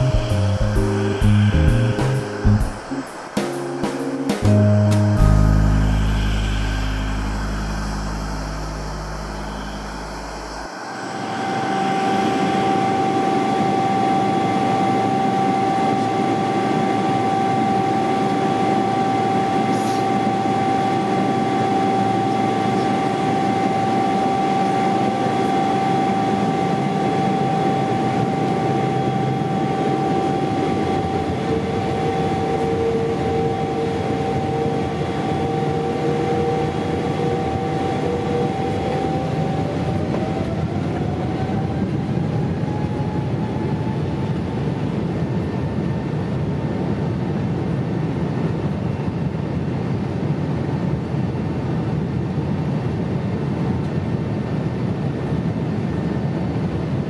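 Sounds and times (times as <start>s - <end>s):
jet engine rumble and whine: 0.0s - 57.0s.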